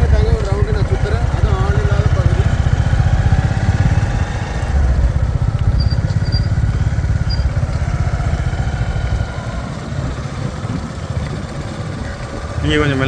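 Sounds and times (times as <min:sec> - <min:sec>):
motorcycle engine puttering: 0:00.0 - 0:13.0.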